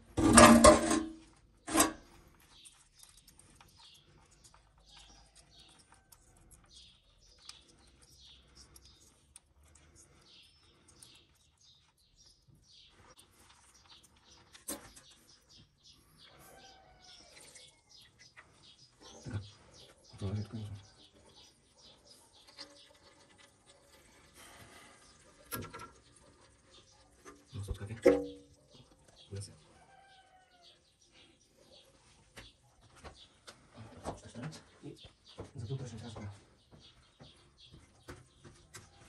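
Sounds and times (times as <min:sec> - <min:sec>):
small birds chirping: 0:01.2 - 0:39.0.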